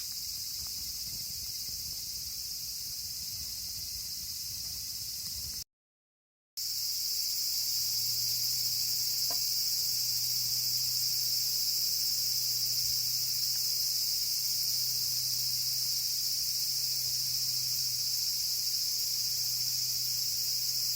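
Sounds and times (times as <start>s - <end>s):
insects trilling: 0.0s - 5.6s, 6.6s - 20.9s.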